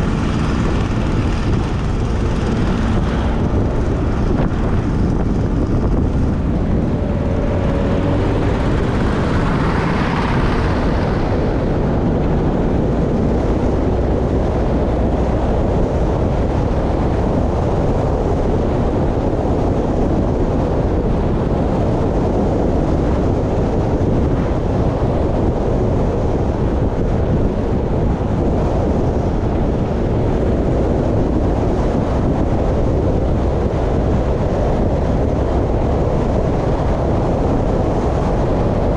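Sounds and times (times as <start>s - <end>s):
vehicle road noise at speed: 0.0s - 38.9s
wind rush on microphone: 0.0s - 38.9s.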